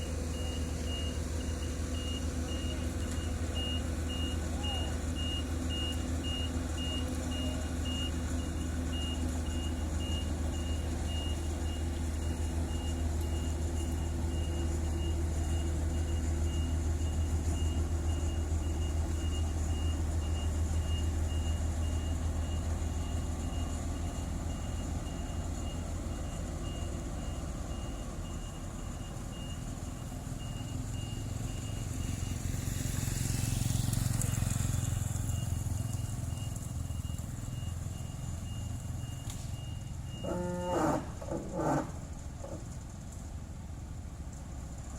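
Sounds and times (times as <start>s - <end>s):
heavy diesel engines running: 0.0s - 44.9s
reversing alarm beeping: 0.1s - 32.6s, 35.3s - 41.9s.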